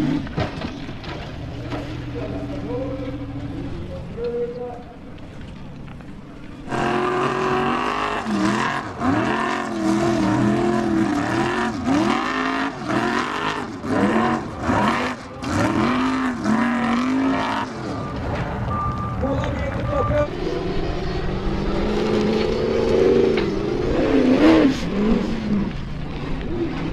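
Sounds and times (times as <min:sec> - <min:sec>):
buggy engine revving: 0:00.0 - 0:05.5, 0:06.2 - 0:26.9.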